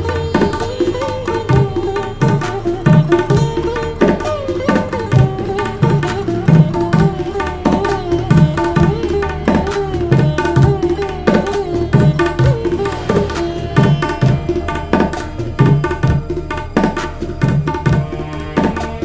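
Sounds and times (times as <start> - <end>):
hand drum deep bass strokes: 0.0 - 19.0
hand drum ringing strokes: 0.0 - 19.0.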